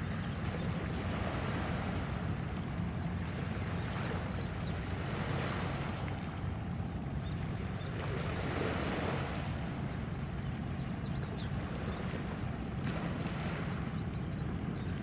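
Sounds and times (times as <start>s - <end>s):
low rumble across water: 0.0s - 15.0s.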